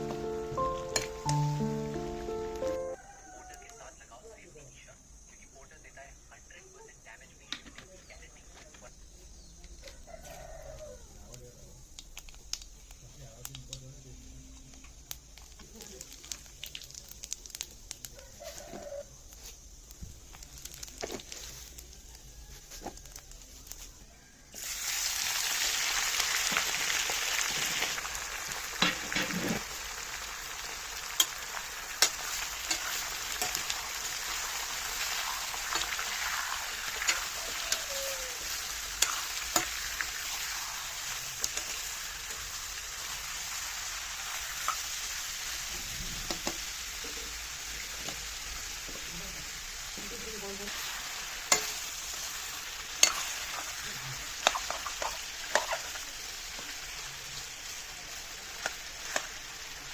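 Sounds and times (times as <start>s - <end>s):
oil sizzling in a pan: 0.0s - 3.0s, 13.9s - 59.9s.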